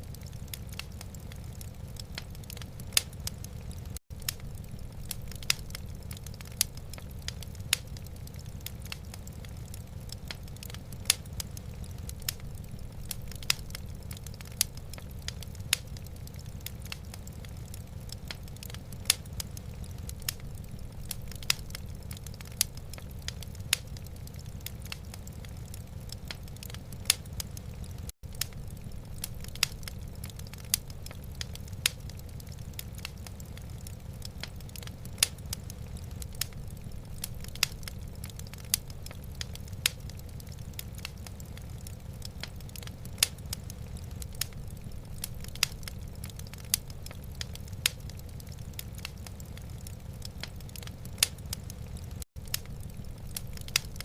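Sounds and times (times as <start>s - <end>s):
sharp fire pops: 0.0s - 54.0s
wood fire crackling: 0.0s - 54.0s.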